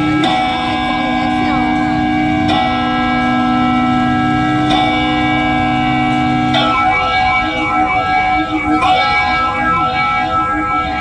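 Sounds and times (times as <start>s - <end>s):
echoing synth melody: 0.0s - 11.0s
held synthesizer chord: 0.0s - 11.0s.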